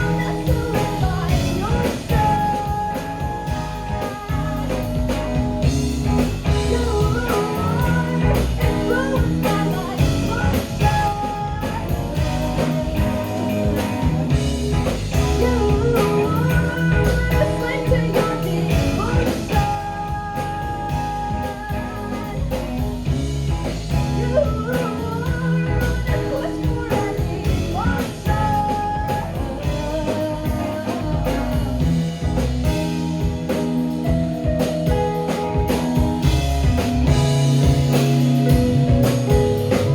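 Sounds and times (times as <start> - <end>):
bluesy lead guitar line bending: 0.0 - 39.9
drums: 0.0 - 39.9
rock band playing live: 0.0 - 39.9.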